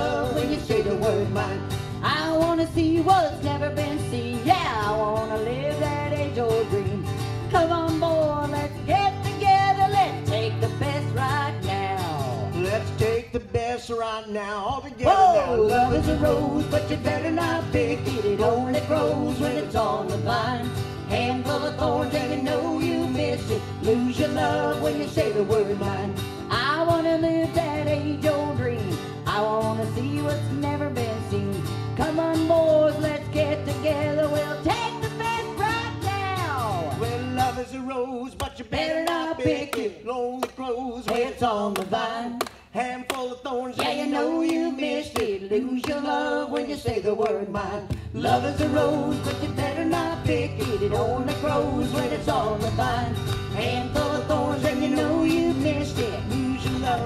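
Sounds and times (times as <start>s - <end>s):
strummed acoustic guitar: 0.0s - 38.1s, 43.8s - 57.0s
live country music: 0.0s - 57.0s.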